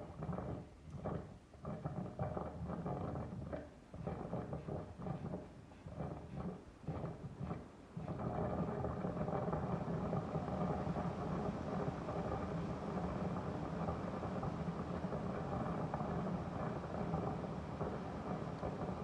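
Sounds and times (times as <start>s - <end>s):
air conditioner gurgling: 0.0s - 19.0s.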